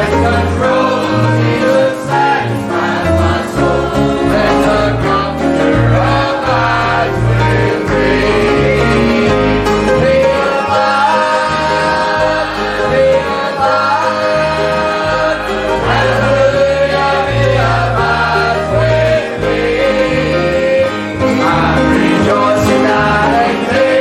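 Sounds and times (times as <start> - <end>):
walking bass line: 0.0 - 23.8
group singing a hymn: 0.0 - 24.0
instrumental accompaniment: 0.0 - 24.0.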